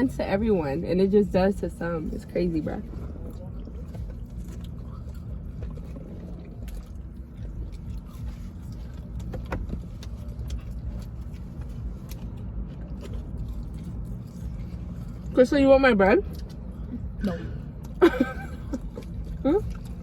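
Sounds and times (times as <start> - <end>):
car rumble: 0.0 - 20.0.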